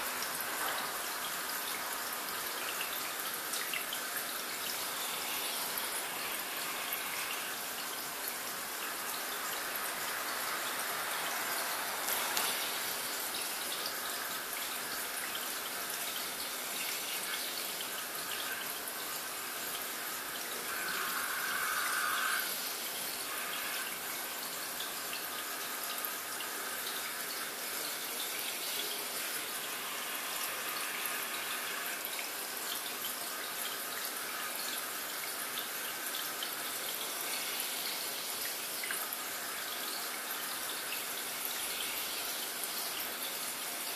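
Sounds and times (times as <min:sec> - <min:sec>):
water trickling in aquarium: 0:00.0 - 0:43.9.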